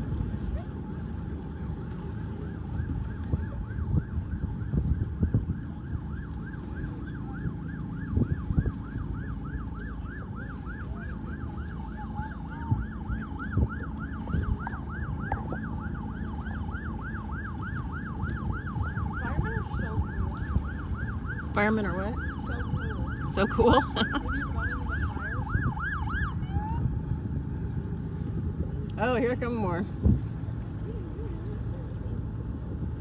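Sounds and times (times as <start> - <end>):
emergency siren yelping: 0.0 - 29.6
low rumbling noise: 0.0 - 33.0.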